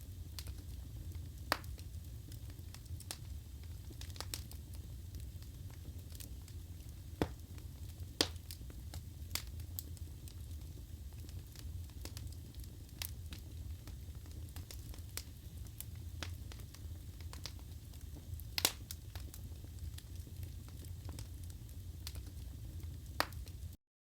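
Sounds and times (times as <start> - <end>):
wood fire burning: 0.0 - 23.8
logs crackling and popping: 0.3 - 23.7.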